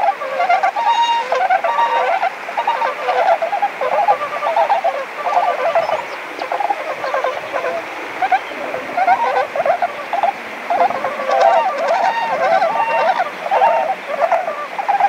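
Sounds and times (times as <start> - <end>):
swans calling: 0.0 - 15.0.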